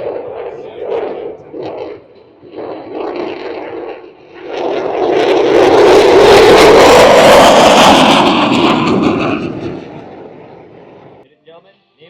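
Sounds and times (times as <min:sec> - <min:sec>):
aircraft flying past: 0:00.0 - 0:11.3.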